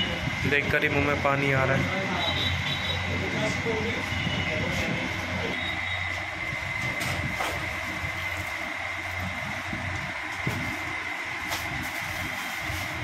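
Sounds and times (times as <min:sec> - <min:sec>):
high-pitched whine: 0:00.0 - 0:13.0
machine hum: 0:00.0 - 0:13.0.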